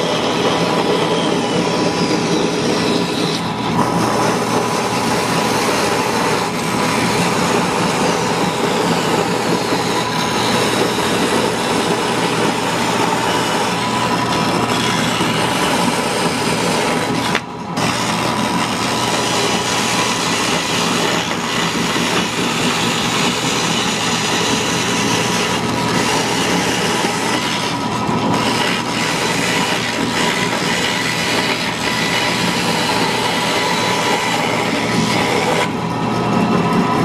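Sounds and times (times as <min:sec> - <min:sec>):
bandsaw blade rasping wood: 0:00.0 - 0:37.0
bandsaw motor hum: 0:00.0 - 0:37.0.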